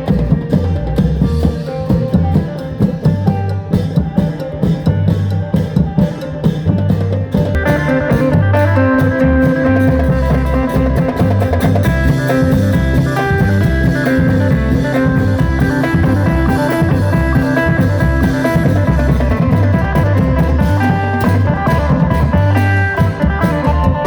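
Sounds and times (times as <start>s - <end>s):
bass: 0.0s - 24.0s
drum kit beat: 0.0s - 24.0s.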